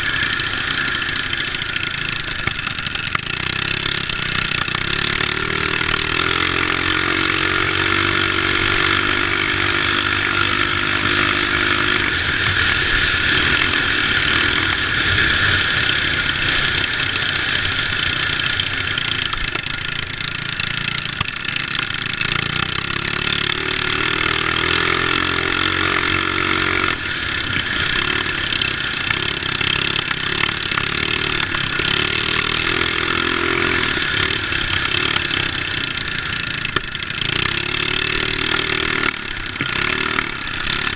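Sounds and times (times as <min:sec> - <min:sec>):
mini bike engines racing: 0:00.0 - 0:40.9.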